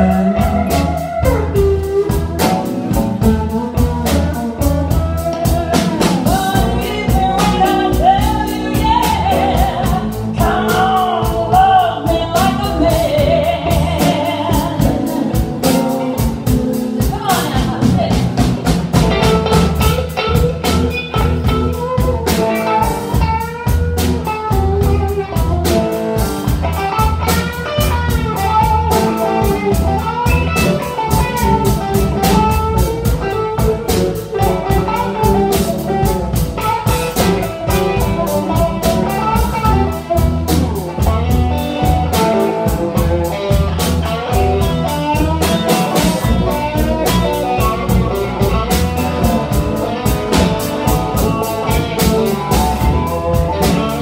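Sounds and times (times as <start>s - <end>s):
blues band playing: 0.0s - 54.0s
electric guitar solo: 0.0s - 54.0s.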